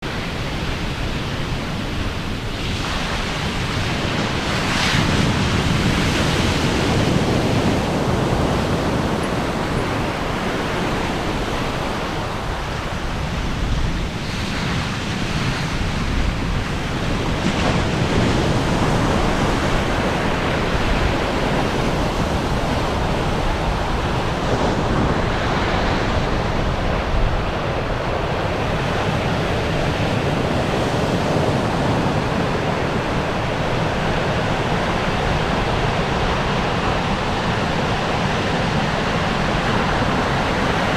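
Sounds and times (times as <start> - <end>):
ocean waves washing onto shore: 0.0 - 40.9
wind: 0.0 - 40.9.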